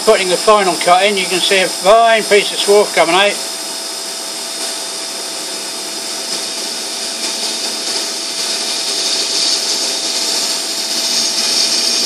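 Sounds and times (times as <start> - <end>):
hiss of lathe cutting metal: 0.0 - 12.0
spindle drive whine: 0.0 - 12.0.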